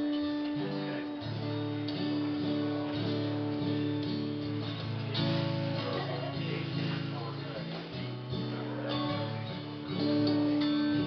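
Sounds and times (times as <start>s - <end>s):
guitars noodling: 0.0s - 11.0s.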